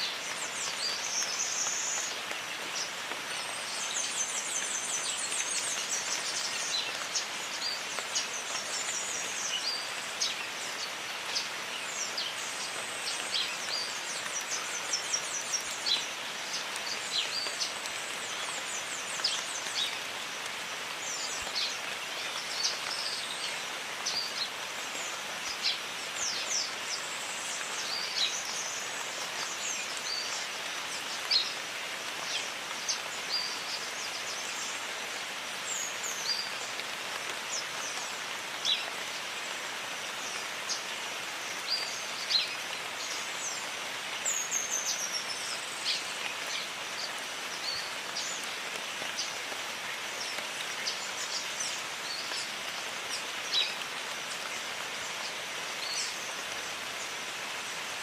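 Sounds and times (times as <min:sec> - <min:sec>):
birds chirping: 0:00.0 - 0:58.0
steady rain hissing: 0:00.0 - 0:58.0.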